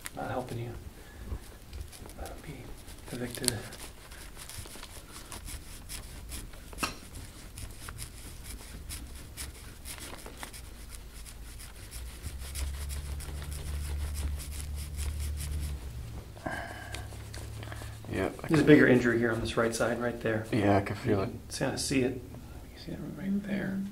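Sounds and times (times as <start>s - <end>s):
rasping rubbing on skin: 0.0s - 22.0s
low steady hum: 0.0s - 23.9s.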